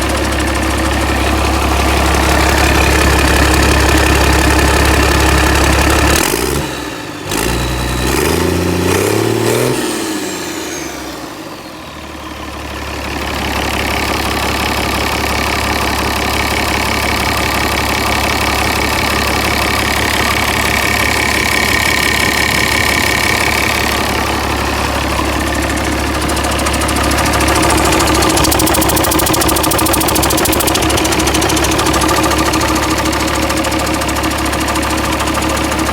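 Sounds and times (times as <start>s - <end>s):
diesel engine revving and idling: 0.0s - 35.9s.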